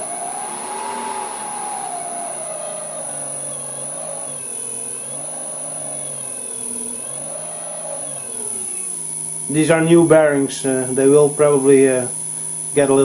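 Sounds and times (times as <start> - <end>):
electric motor humming: 0.0 - 13.0
high whine: 0.0 - 13.0.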